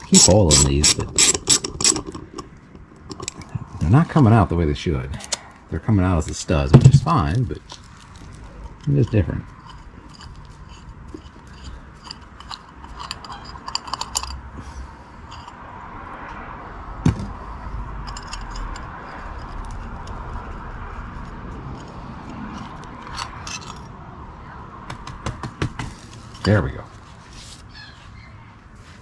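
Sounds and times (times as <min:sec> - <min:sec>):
hand tools clicking on metal: 0:00.0 - 0:15.6, 0:17.1 - 0:23.9, 0:24.9 - 0:27.7.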